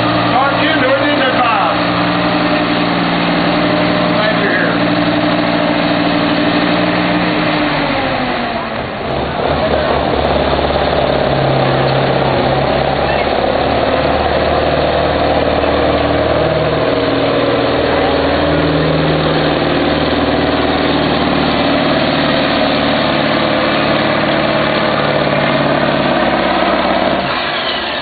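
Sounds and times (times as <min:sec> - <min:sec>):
diesel truck engine running: 0:00.0 - 0:28.0.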